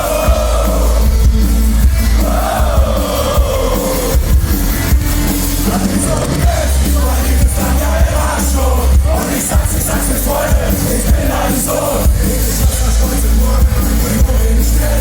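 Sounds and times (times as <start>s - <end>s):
heavy bass: 0.0s - 15.0s
live rock band: 0.0s - 15.0s.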